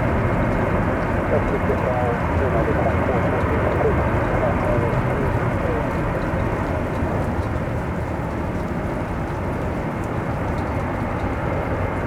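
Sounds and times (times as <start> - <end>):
heavy rain: 0.0 - 12.0
wind: 0.0 - 12.0
raindrops ticking: 0.1 - 12.0.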